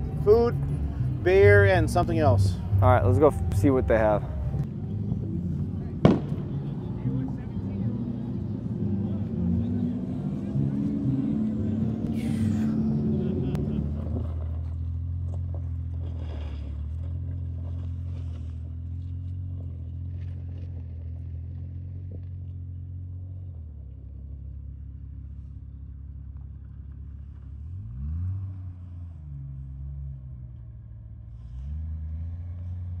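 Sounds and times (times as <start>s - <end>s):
low engine rumble: 0.0s - 33.0s.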